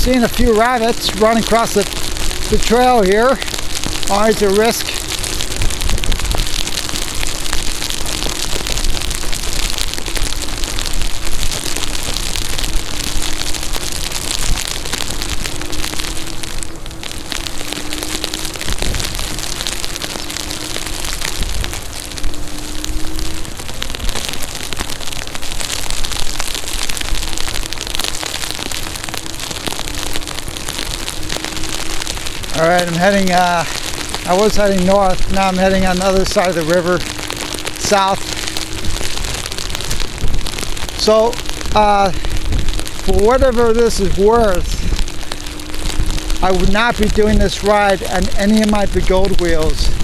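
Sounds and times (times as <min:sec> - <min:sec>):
electric motor hum: 0:00.0 - 0:48.6
rain drops crackling: 0:00.0 - 0:50.0.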